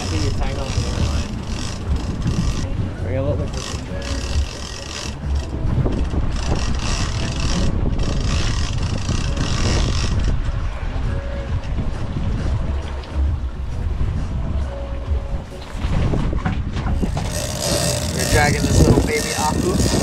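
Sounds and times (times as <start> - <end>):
boat motor running: 0.0 - 20.0
water noise: 0.0 - 20.0
wind: 0.0 - 20.0.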